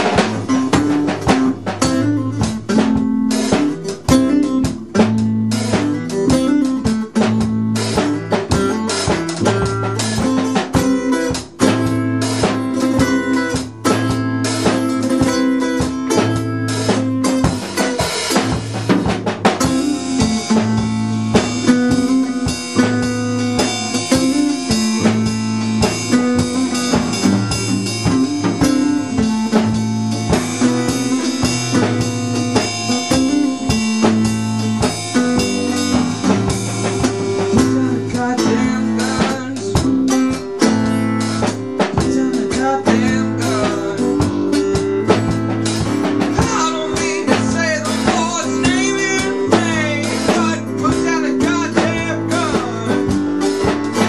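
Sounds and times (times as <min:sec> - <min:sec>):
drum kit steady beat: 0:00.0 - 0:54.0
plucked double bass: 0:00.0 - 0:54.0
strummed acoustic guitar: 0:00.0 - 0:54.0.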